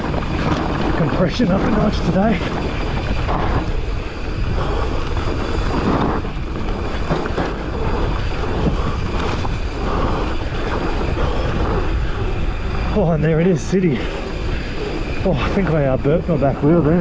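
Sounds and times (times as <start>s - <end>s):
bike clattering: 0.0s - 17.0s
bike tyres on dirt: 0.0s - 17.0s
wind buffeting microphone: 0.0s - 17.0s.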